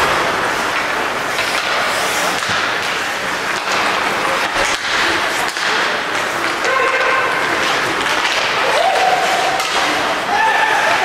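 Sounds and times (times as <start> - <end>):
arena noise: 0.0 - 11.0
hockey sticks and puck clacking: 0.0 - 11.0
skates scraping ice: 0.0 - 11.0.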